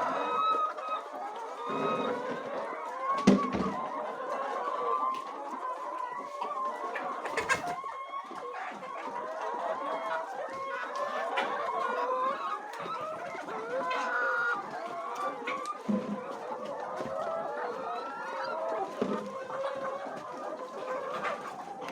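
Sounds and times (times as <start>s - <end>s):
hens clucking and calling: 0.0s - 21.9s.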